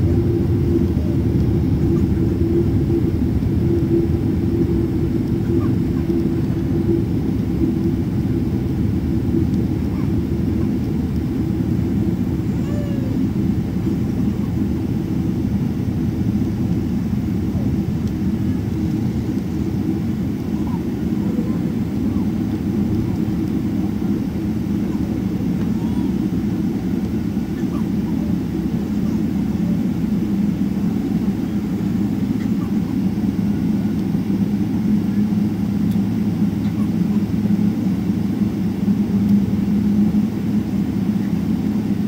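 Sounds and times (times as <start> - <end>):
airliner engine and wheel rumble: 0.0 - 42.0
steady hum: 0.0 - 42.0.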